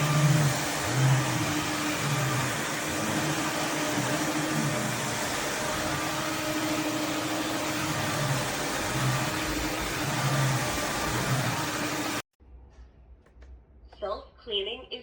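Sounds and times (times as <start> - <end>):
vacuum mop whirring: 0.0 - 12.2.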